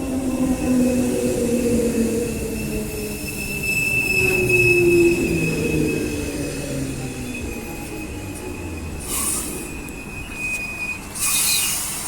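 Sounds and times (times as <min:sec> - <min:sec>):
train wheels squealing: 0:00.0 - 0:12.0.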